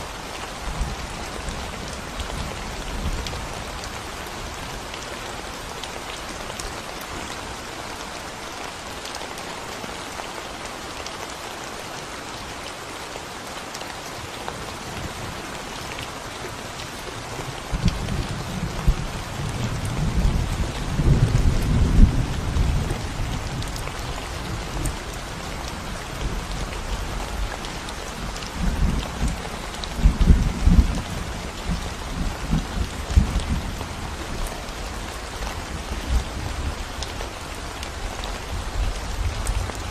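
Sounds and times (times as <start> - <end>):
rain on concrete: 0.0 - 39.9.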